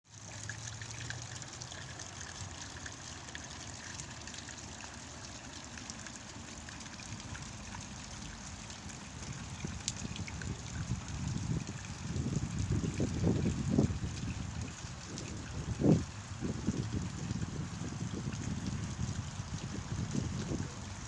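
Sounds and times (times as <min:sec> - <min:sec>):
light rain patter: 0:00.0 - 0:21.0.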